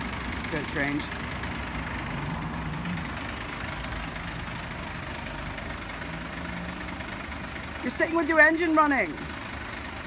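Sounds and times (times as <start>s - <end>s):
van engine idling: 0.0s - 10.0s.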